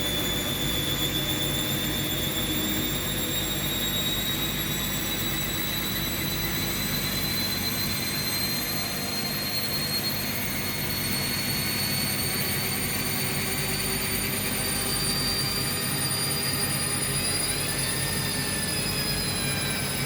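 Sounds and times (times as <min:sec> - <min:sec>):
washing machines spinning: 0:00.0 - 0:20.0.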